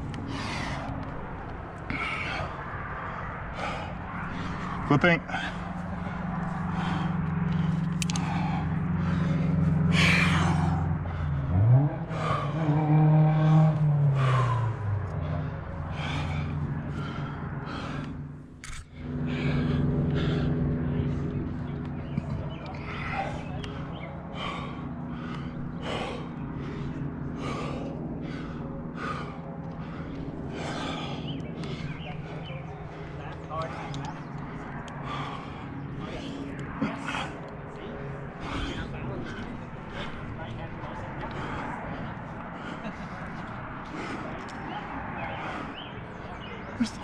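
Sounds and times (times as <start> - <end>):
person breathing hard: 0.0 - 47.0
vehicle engine running: 0.0 - 47.0.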